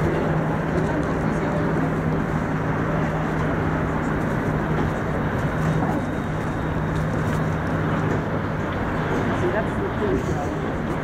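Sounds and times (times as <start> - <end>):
ferry engine running: 0.0 - 11.0.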